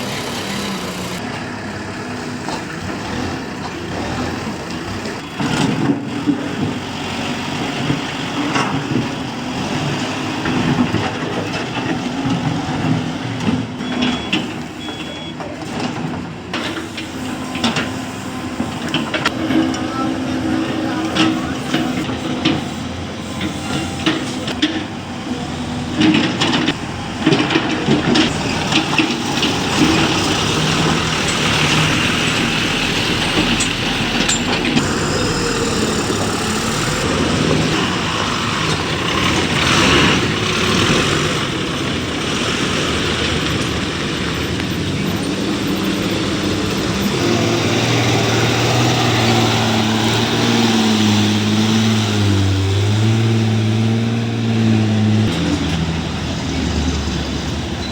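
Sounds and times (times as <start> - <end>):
heavy vehicle engine running: 0.0 - 57.9
nearer engine humming: 0.0 - 57.9.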